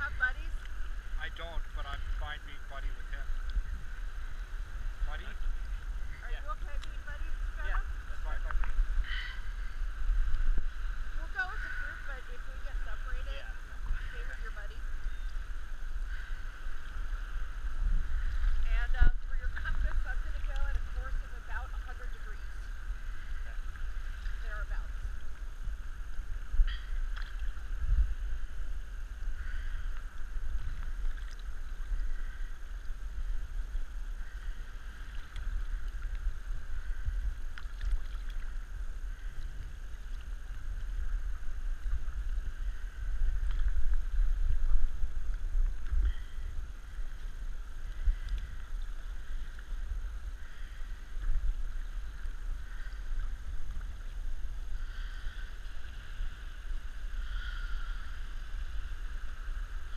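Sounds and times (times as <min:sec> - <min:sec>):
sea water lapping and sloshing: 0:00.0 - 0:59.9.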